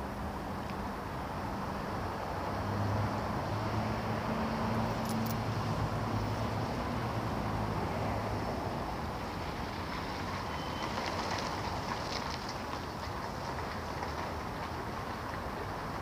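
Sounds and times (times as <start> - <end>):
passing cars rushing: 1.6 - 16.0.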